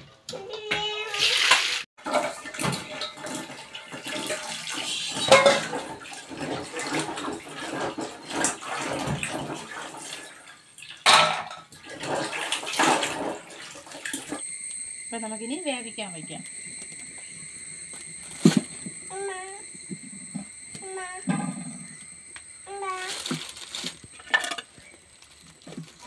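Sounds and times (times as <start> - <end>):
water splashing and sloshing: 0.8 - 15.2, 16.0 - 26.0.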